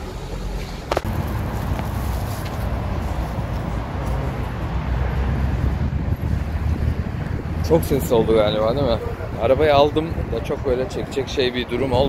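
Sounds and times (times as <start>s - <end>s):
traffic rumble: 0.0s - 12.0s
wind on microphone: 1.0s - 12.0s.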